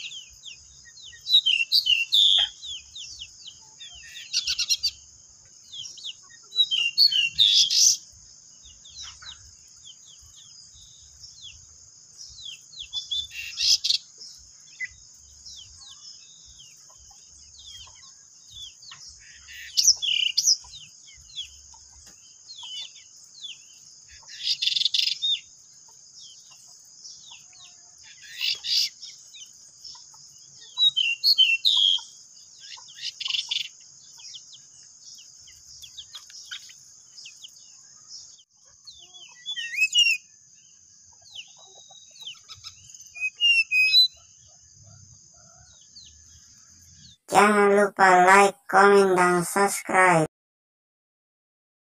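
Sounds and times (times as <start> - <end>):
birds chirping: 0.0 - 50.3.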